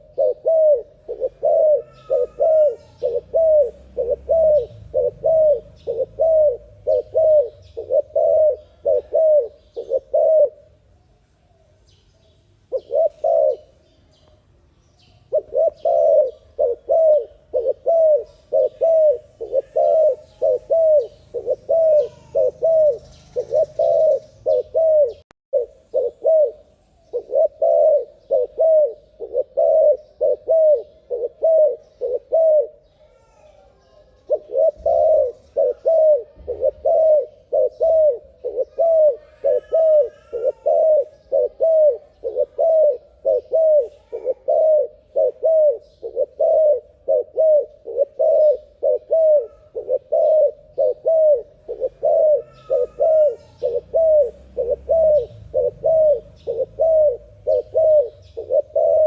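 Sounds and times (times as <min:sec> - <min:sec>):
dove cooing: 0:00.0 - 0:10.8, 0:12.7 - 0:13.8, 0:15.3 - 0:59.0.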